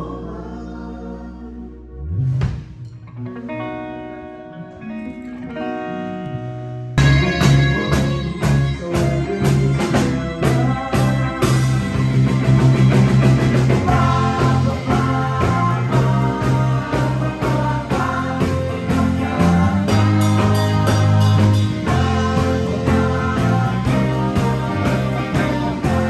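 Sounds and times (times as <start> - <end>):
live rock band playing: 2.6 - 26.0.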